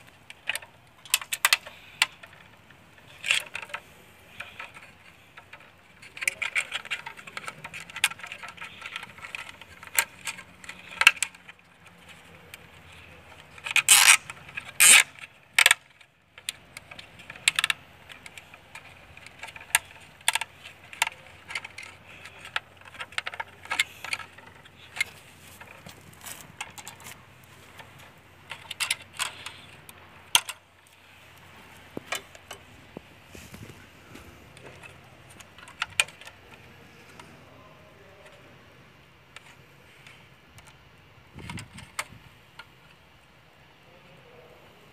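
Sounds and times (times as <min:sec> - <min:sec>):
hand tools clicking and scraping: 0:00.0 - 0:38.4.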